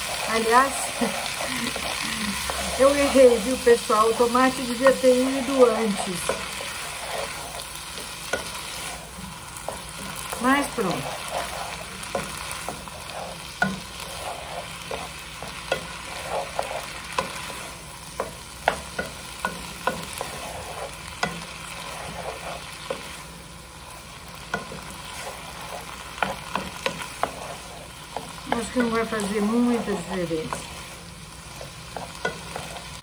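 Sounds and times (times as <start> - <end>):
food sizzling in a pan: 0.0 - 33.0
wooden spoon scraping a pan: 0.0 - 33.0.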